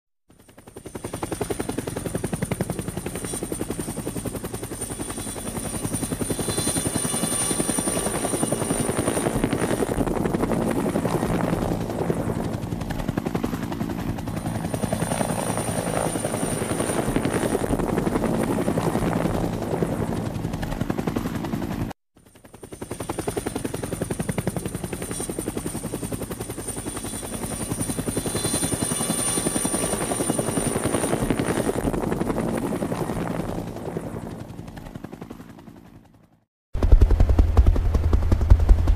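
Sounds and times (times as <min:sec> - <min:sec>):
helicopter rotor chopping: 0:00.4 - 0:38.9.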